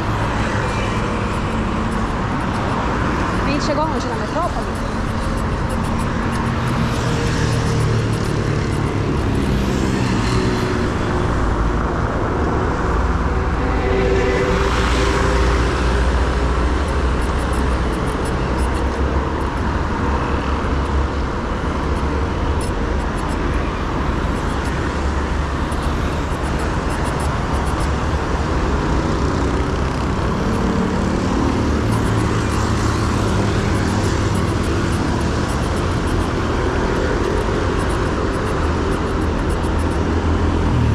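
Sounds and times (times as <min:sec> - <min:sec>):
city road traffic: 0:00.0 - 0:40.9.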